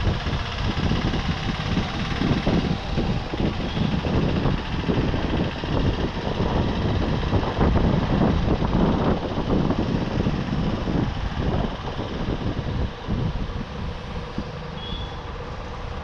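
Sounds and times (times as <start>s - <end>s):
motorbike engine and road noise: 0.0s - 16.0s
wind buffeting microphone: 0.0s - 16.0s.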